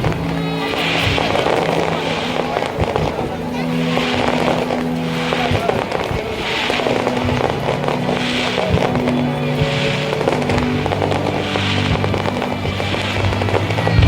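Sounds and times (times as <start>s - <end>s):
fireworks crackling: 0.0s - 14.0s
music playing: 0.0s - 14.0s.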